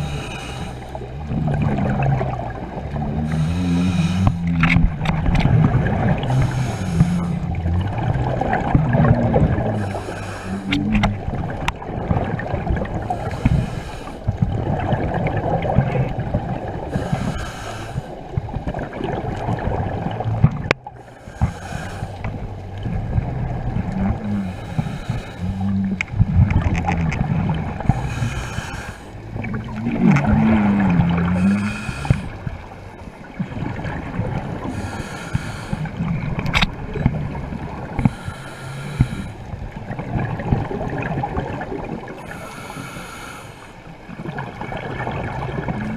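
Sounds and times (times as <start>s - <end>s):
regulator bubbles hissing: 0.0s - 45.9s
underwater water rushing: 0.0s - 45.9s.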